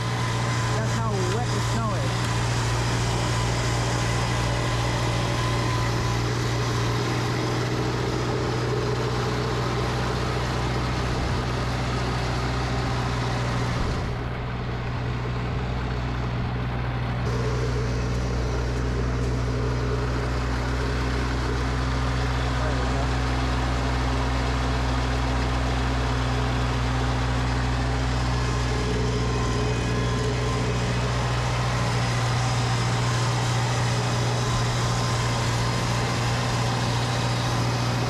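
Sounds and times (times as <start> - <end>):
snowblower engine running: 0.0 - 38.0.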